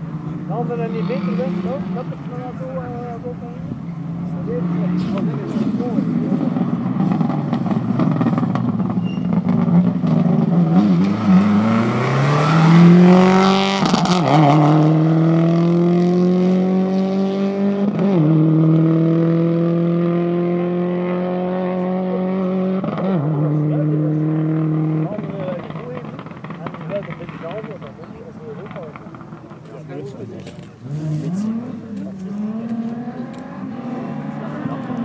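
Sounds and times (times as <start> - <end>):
rally car engine accelerating: 0.0 - 35.0.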